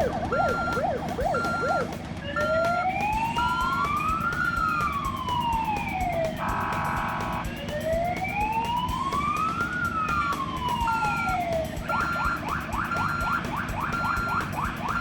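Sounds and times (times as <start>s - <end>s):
cartoon siren yelp and wail: 0.0s - 7.0s, 7.9s - 15.0s.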